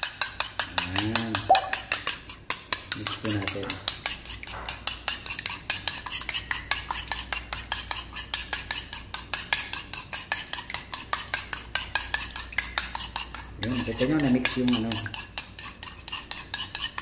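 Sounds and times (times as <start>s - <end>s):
spoon beating egg in bowl: 0.0s - 17.0s.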